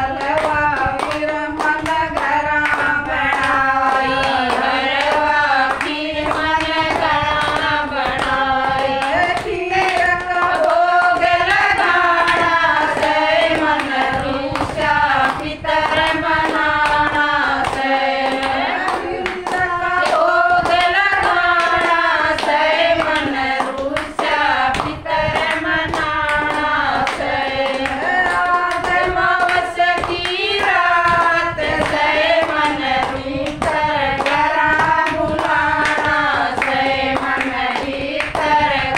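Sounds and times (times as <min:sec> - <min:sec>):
hand claps: 0:00.0 - 0:38.9
women singing: 0:00.0 - 0:38.9.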